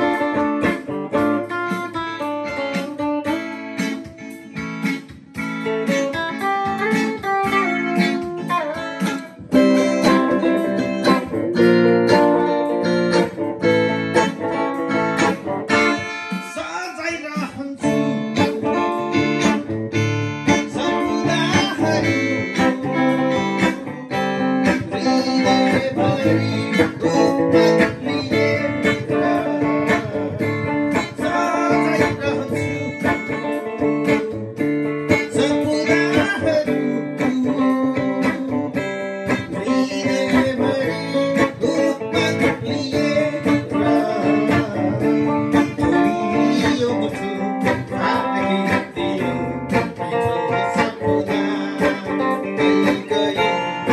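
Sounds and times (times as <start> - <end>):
guitar plucking and strumming: 0.0 - 53.9.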